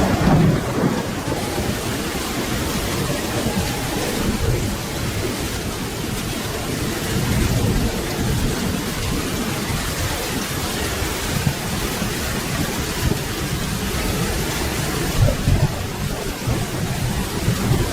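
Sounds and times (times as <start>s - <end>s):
rolling thunder rumble: 0.0s - 17.9s
steady rain: 0.0s - 17.9s.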